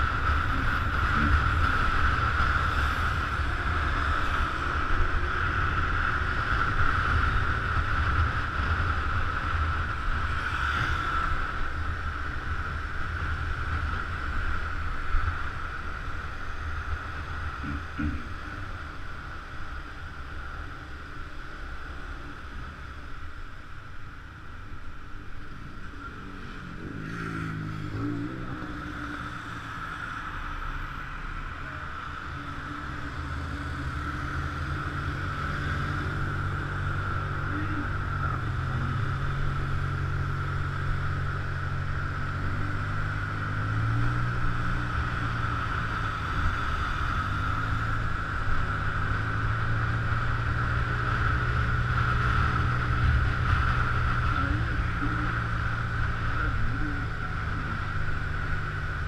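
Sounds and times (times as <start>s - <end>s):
scooter engine drone: 0.0s - 59.0s.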